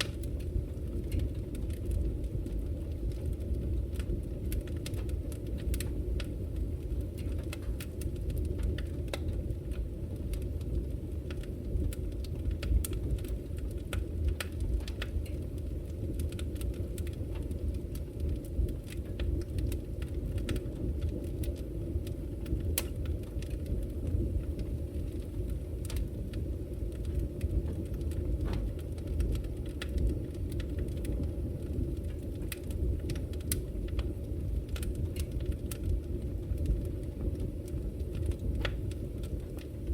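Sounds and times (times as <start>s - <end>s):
fire rushing: 0.0s - 39.9s
wood crackling and popping: 0.0s - 39.9s.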